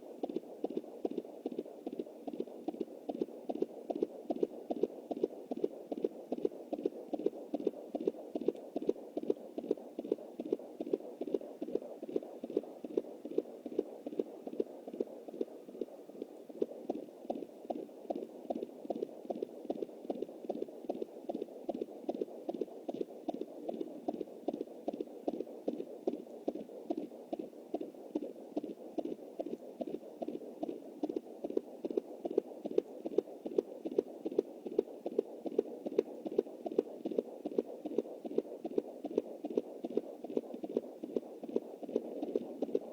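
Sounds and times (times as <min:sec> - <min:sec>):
fetal heartbeat on doppler: 0:00.0 - 0:42.9.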